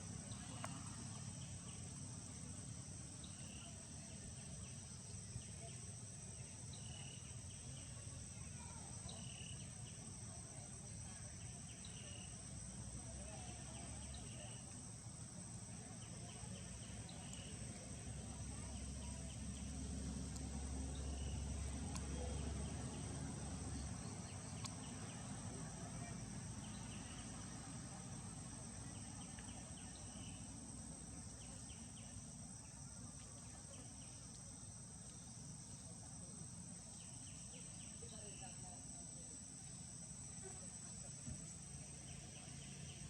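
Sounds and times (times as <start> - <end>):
insect chorus drone: 0.0 - 43.0.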